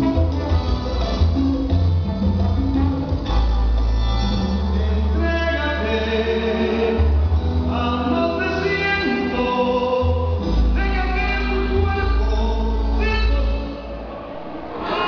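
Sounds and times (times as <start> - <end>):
latin dance music with singing: 0.0 - 15.0.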